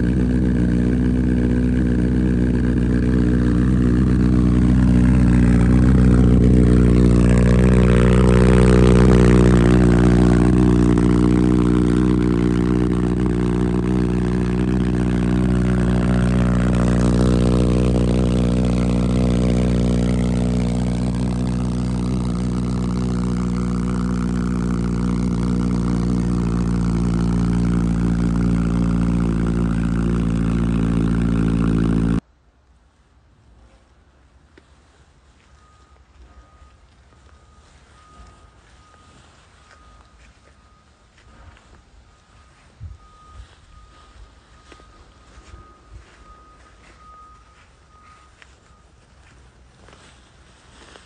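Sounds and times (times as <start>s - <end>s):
motorcycle engine idling: 0.0s - 32.2s, 36.0s - 51.0s.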